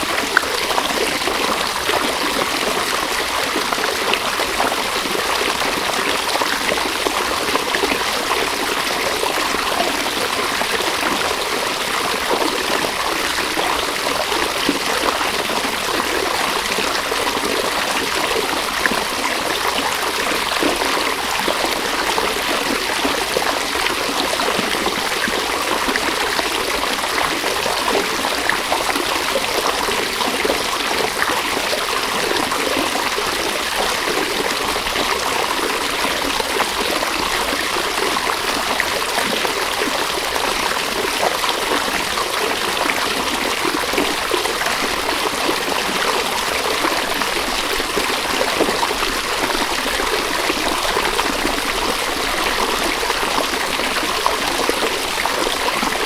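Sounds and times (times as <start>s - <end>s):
river water over rocks: 0.0s - 56.0s.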